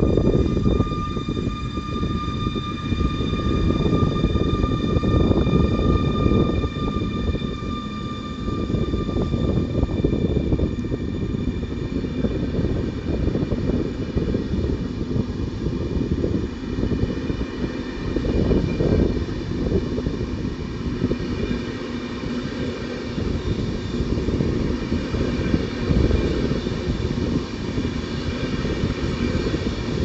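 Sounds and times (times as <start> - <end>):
high even whine: 0.0 - 30.0
train rumble: 0.0 - 30.0.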